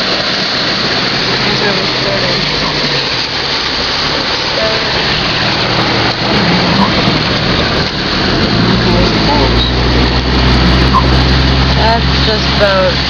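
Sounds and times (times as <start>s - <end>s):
low engine hum: 0.0s - 13.0s
water rushing: 0.0s - 13.0s.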